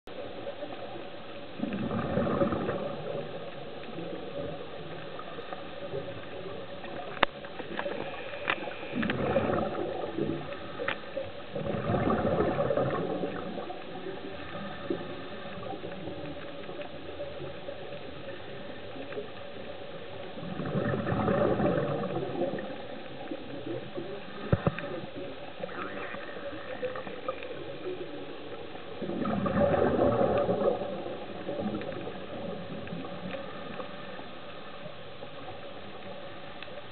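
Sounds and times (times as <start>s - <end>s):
steady background hiss: 0.1s - 36.9s
underwater exhaust bubbles gurgling: 0.1s - 36.9s.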